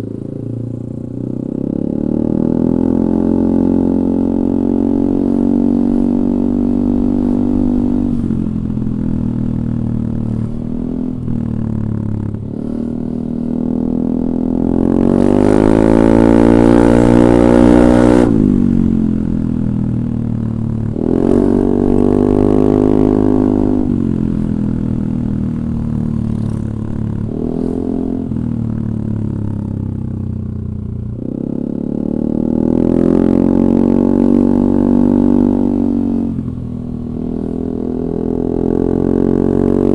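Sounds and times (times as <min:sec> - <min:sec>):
scooter engine idling and revving: 0:00.0 - 0:39.9.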